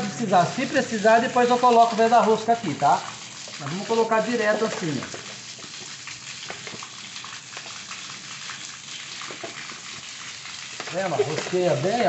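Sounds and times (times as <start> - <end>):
water spattering from pipe: 0.0 - 12.0.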